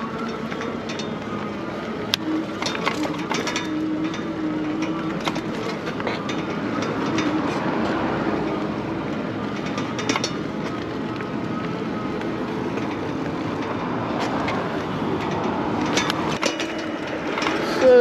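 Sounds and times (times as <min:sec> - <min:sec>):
rolling and wind noise: 0:00.0 - 0:18.0.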